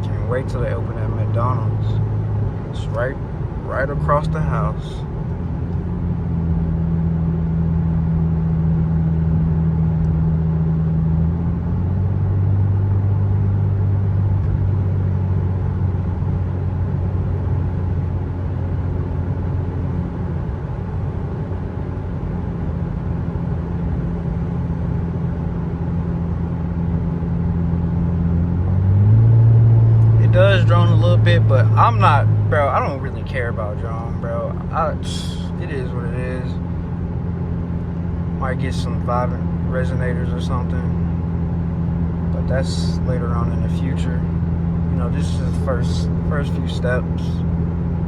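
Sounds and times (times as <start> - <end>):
car exhaust drone: 0.0 - 48.0.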